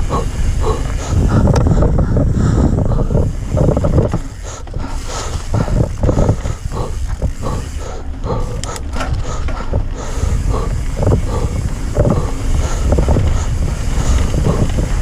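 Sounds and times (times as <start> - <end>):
bike rattling and knocking: 0.0 - 15.0
bike tyre noise: 0.0 - 15.0
wind rumble on microphone: 0.0 - 15.0.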